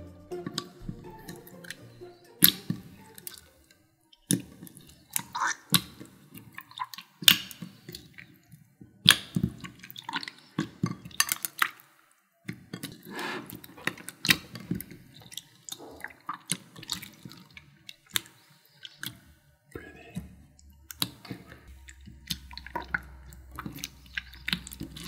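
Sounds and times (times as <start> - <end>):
slime squelching and popping: 4.2 - 8.5, 9.1 - 25.0.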